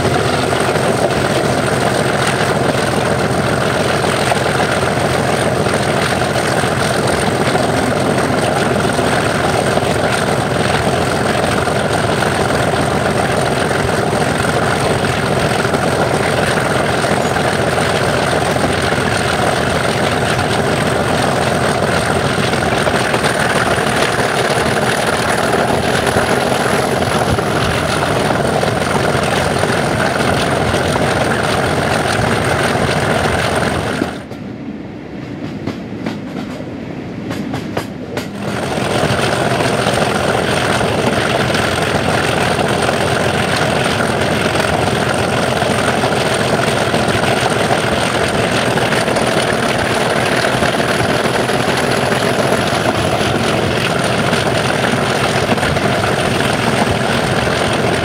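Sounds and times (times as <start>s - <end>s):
diesel locomotive engine thrashing: 0.0s - 34.5s, 35.5s - 58.0s.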